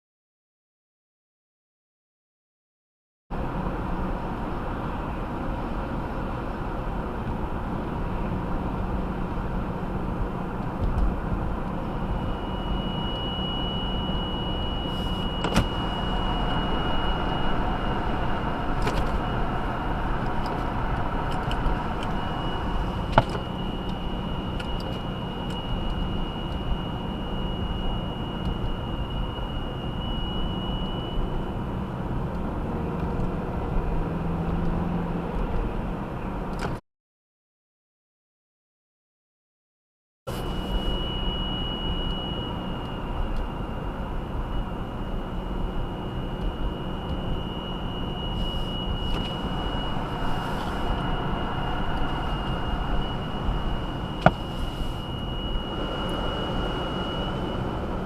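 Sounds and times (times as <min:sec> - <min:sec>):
high-pitched steady whine: 0:03.3 - 0:36.6, 0:40.3 - 0:58.0
road noise: 0:03.3 - 0:36.8, 0:40.3 - 0:58.0
car engine: 0:03.4 - 0:36.7, 0:40.3 - 0:58.0.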